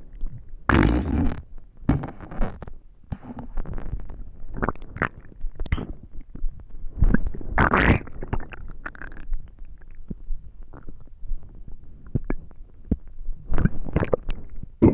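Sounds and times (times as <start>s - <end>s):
stomach growling and gurgling: 0.0s - 14.9s.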